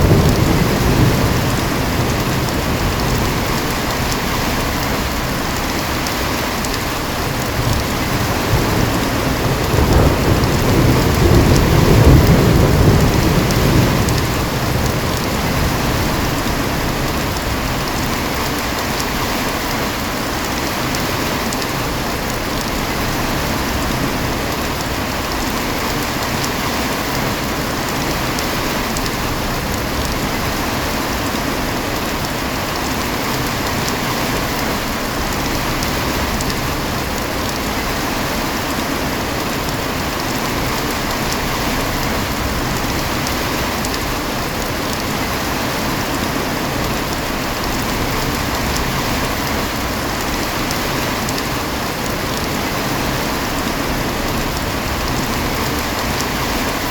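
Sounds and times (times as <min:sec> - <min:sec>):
heavy rain hissing: 0:00.0 - 0:56.9
patter of raindrops: 0:00.0 - 0:56.9.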